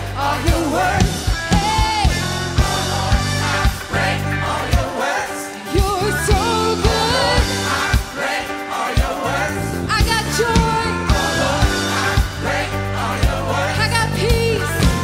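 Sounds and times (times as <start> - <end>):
steady drum beat: 0.0 - 5.2, 5.8 - 15.0
band playing worship music: 0.0 - 15.0
singers with ornamented vocals: 0.0 - 15.0.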